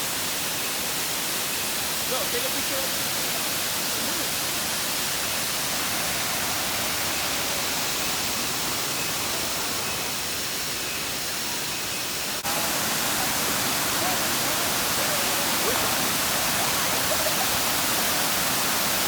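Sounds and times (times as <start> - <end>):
waterfall pouring: 0.0 - 11.3, 12.2 - 19.0
heavy rain: 0.0 - 19.0.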